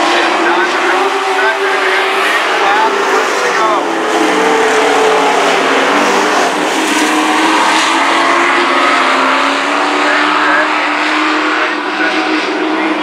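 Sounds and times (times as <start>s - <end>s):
racing truck engines droning: 0.0s - 13.0s.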